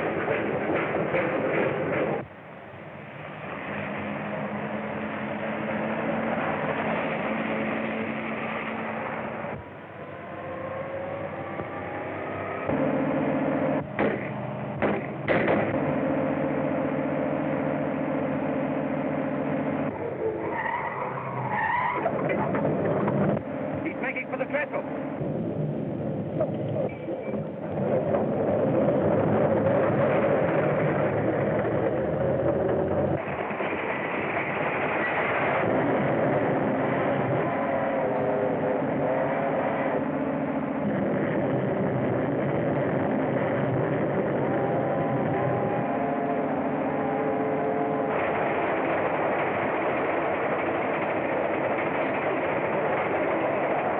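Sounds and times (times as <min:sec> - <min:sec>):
vehicle engine running hard: 0:00.0 - 0:53.9
wavering whine: 0:01.8 - 0:53.9.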